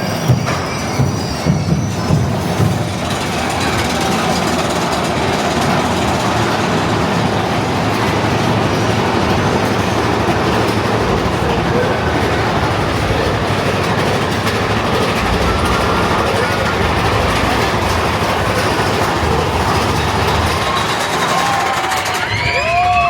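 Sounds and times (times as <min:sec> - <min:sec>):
roller coaster cars rattling: 0:00.0 - 0:23.0.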